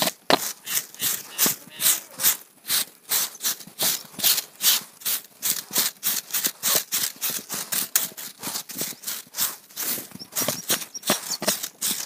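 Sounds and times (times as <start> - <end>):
broom sweeping ground: 0.0 - 12.0.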